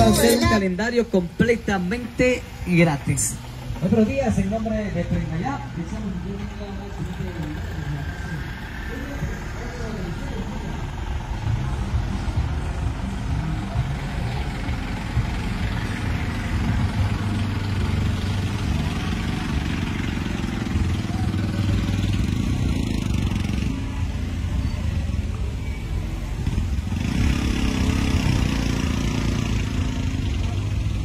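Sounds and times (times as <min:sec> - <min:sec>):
vehicle engines rumbling past: 0:00.0 - 0:31.0.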